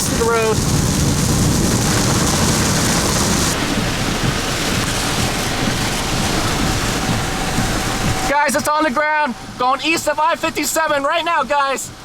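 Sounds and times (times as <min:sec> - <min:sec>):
heavy rain and wind on vehicle: 0:00.0 - 0:12.0.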